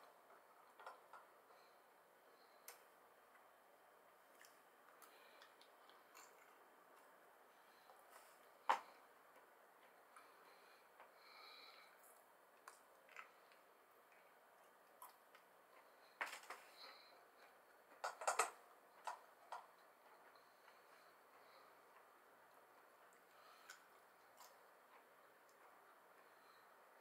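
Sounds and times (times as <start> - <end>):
soft chewing: 4.1 - 18.0, 18.7 - 26.8.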